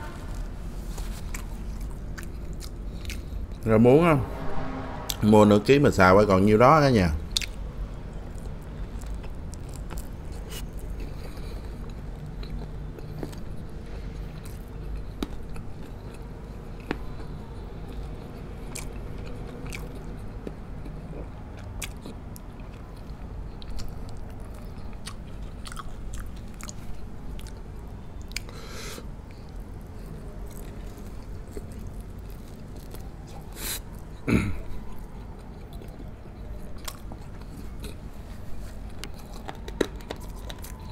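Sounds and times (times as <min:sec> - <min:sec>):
chewing and biting ribs: 0:00.0 - 0:03.6, 0:08.2 - 0:40.9.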